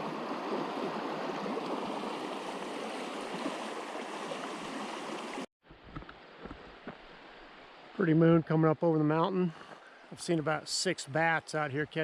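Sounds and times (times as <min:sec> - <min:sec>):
quiet outdoor background: 0:00.0 - 0:12.0.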